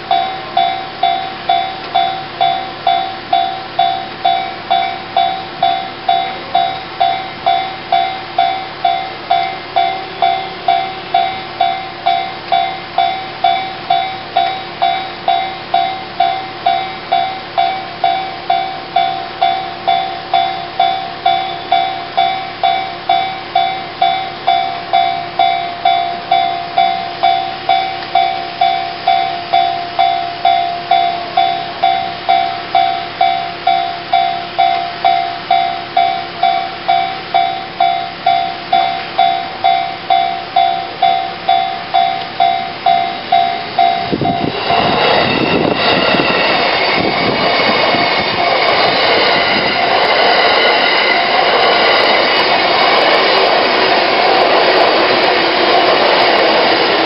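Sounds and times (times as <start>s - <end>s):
electric train passing: 0.0s - 57.0s
level-crossing warning bell: 0.0s - 57.0s.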